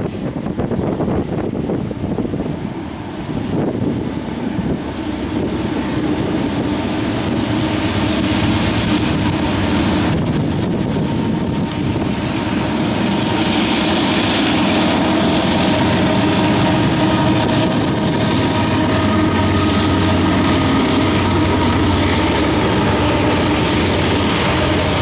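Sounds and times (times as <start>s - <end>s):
diesel locomotive engine rumble: 0.0s - 25.0s
train wheels on rails: 0.0s - 25.0s.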